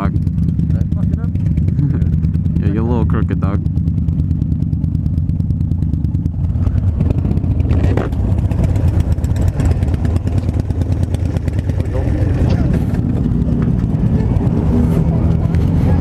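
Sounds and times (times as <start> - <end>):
motorcycle engines at low speed: 0.0 - 16.0.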